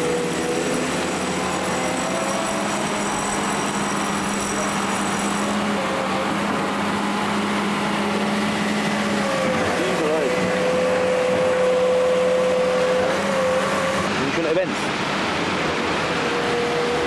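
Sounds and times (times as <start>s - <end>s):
broad rushing noise: 0.0s - 17.0s.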